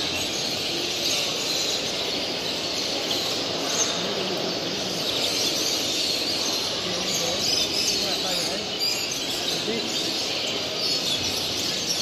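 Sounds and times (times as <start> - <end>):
murmur of a crowded hall: 0.0 - 12.0
songbirds chirping: 0.0 - 12.0.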